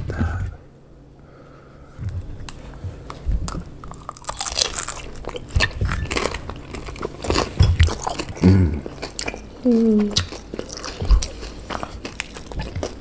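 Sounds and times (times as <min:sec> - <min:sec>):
chewing with wet mouth smacks: 0:02.4 - 0:13.0.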